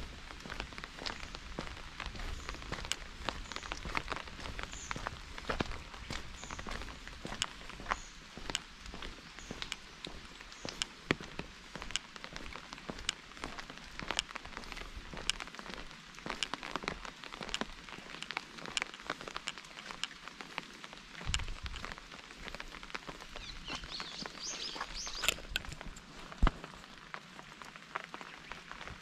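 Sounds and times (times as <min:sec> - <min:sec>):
rain falling: 0:00.0 - 0:29.0
raindrops ticking close by: 0:00.0 - 0:29.0.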